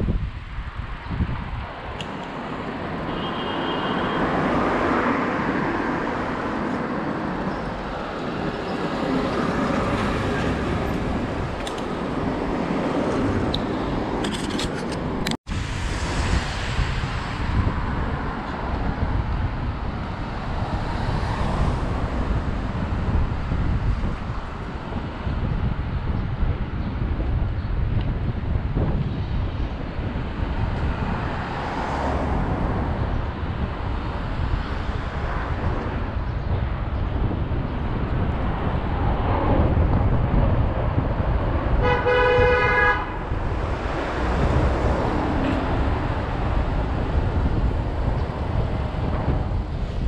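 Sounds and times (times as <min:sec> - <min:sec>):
street traffic noise: 0:00.0 - 0:50.0
wind rushing over microphone: 0:00.0 - 0:50.0.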